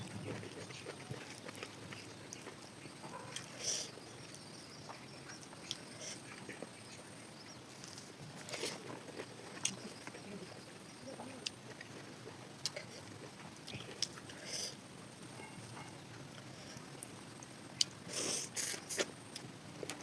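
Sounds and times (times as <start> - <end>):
chewing: 0.1 - 7.1, 7.7 - 20.0.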